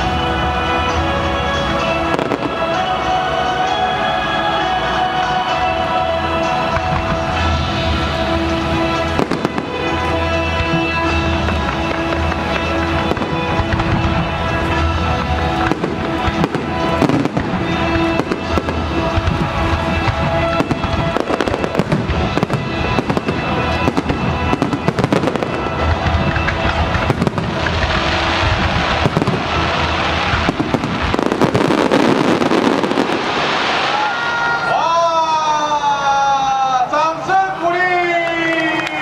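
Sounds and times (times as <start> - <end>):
fireworks bursting and crackling: 0.0 - 35.0
music from loudspeakers: 0.0 - 39.0.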